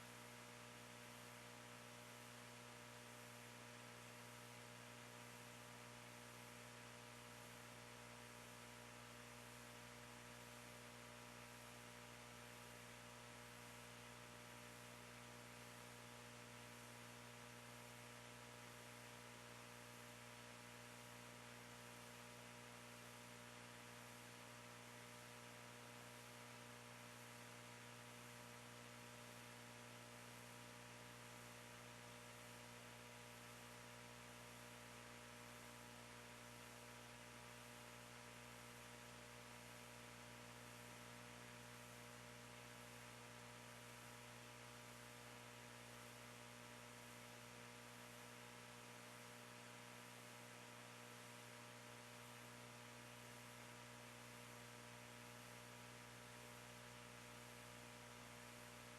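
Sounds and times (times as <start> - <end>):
electrical mains hum: 0.0 - 58.9.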